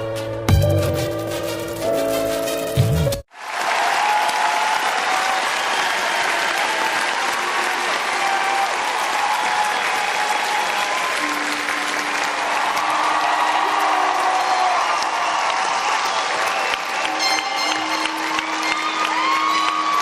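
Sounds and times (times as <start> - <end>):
large audience applauding: 3.3 - 20.0.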